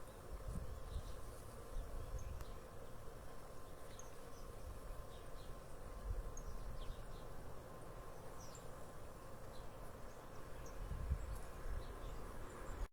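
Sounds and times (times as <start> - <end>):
faint insect-like drone: 0.0 - 12.9.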